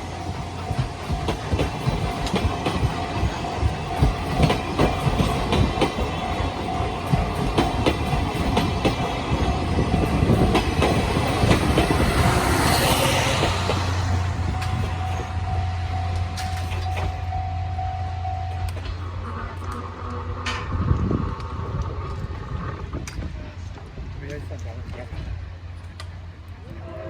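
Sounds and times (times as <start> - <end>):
train wheels clacking on rail joints: 0.0 - 26.8
train rumble: 0.0 - 27.0.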